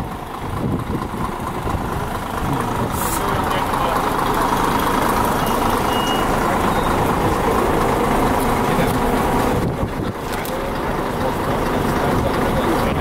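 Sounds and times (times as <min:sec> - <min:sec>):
diesel bus engine idling: 0:00.0 - 0:13.0.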